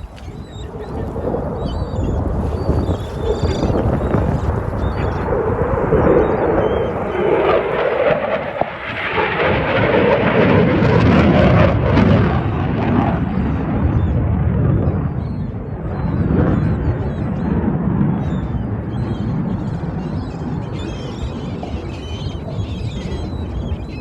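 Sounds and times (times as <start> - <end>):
jet aircraft flying past: 0.0 - 24.0.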